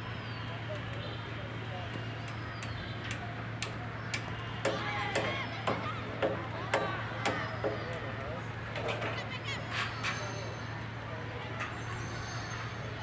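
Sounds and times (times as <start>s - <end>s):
voices calling out: 0.1s - 13.0s.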